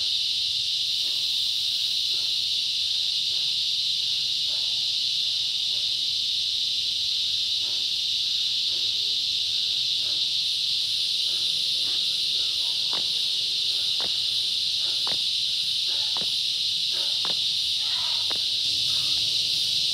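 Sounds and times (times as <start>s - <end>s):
insect chorus buzzing: 0.0s - 19.9s.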